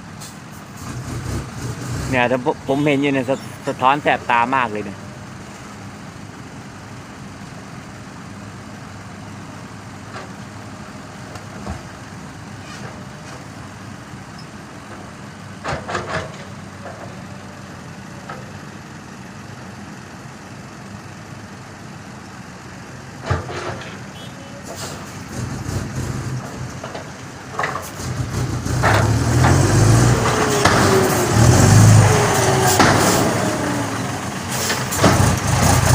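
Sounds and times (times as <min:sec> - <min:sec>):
diesel truck engine idling: 0:02.2 - 0:15.6, 0:16.5 - 0:35.9.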